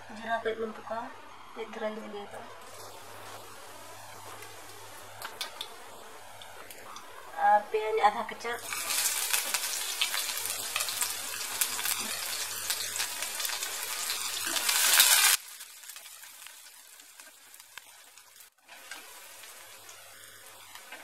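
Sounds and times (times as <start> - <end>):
onion sizzling in hot oil: 2.6 - 21.0.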